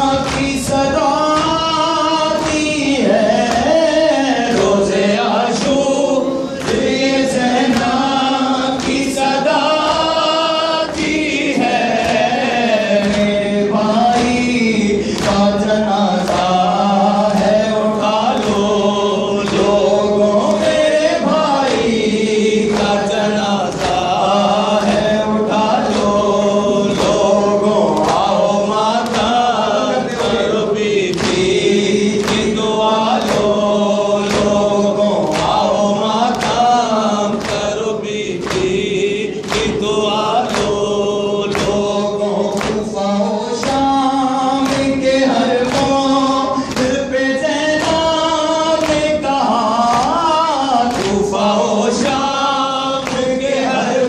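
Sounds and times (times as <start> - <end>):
group chanting along: 0.0 - 54.0
man singing lament into microphone: 0.0 - 54.0.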